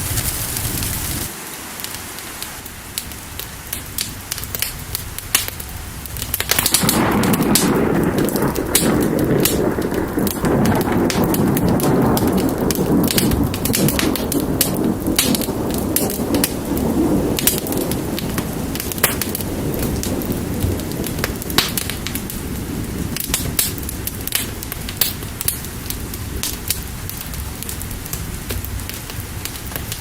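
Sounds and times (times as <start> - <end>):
fire crackling and popping: 0.0 - 30.0
steady rain: 0.0 - 30.0
low rumble: 2.6 - 29.5.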